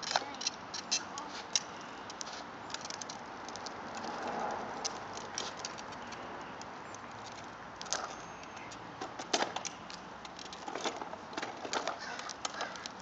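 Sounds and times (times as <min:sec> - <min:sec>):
plastic wheels rolling on asphalt: 0:00.0 - 0:13.0.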